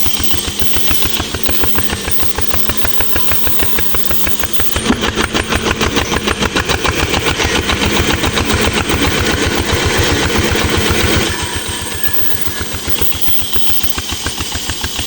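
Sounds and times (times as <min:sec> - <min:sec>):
old engine running: 0:00.0 - 0:15.0.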